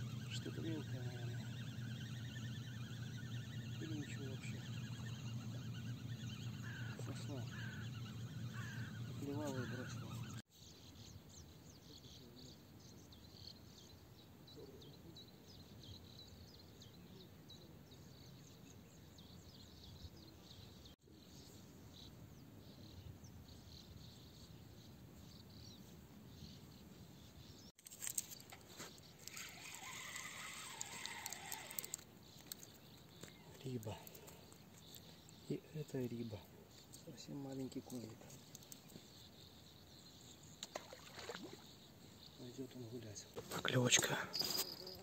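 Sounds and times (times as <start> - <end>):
insect calls: 0.0 - 14.7, 23.5 - 45.0
bird chirps: 0.0 - 45.0.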